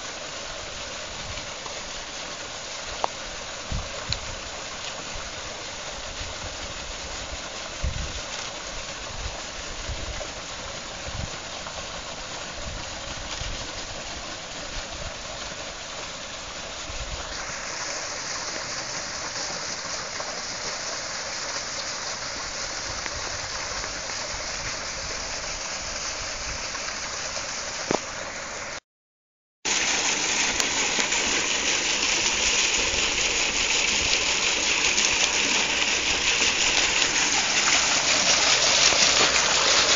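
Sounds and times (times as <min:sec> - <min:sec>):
water splashing on a water wheel: 0:00.0 - 0:28.8, 0:29.6 - 0:39.9.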